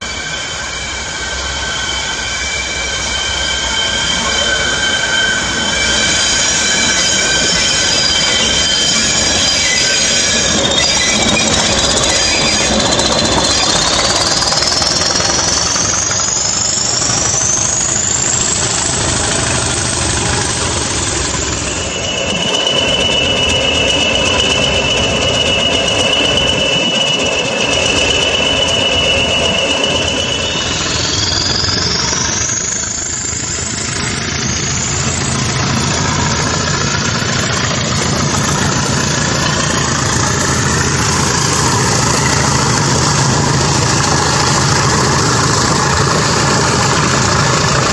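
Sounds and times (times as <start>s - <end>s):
diesel locomotive engines running: 0.0s - 47.9s
wheel flanges squealing: 0.0s - 47.9s.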